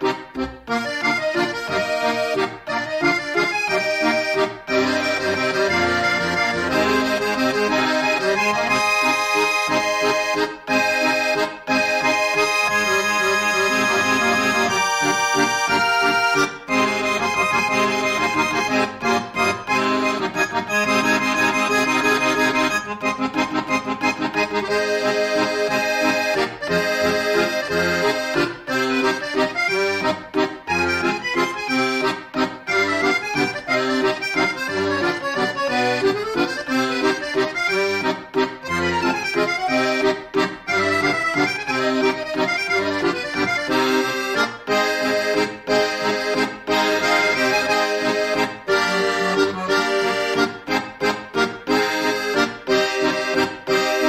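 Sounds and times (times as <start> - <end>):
instrumental background music: 0.0 - 54.0.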